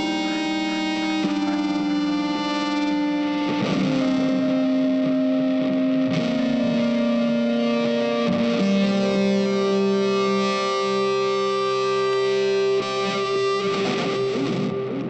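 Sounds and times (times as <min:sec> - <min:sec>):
music with sustained notes: 0:00.0 - 0:15.0.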